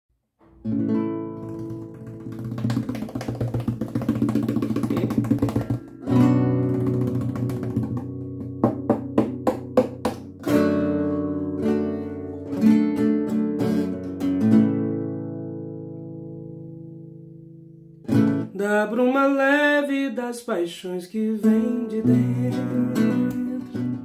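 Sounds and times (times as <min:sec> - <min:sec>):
classical guitar playing: 0:00.4 - 0:18.6, 0:21.4 - 0:24.0.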